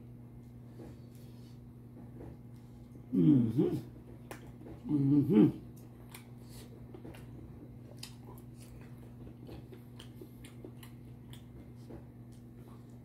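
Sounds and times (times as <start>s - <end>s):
low electrical hum: 0.0s - 13.0s
faint chewing: 2.2s - 13.0s.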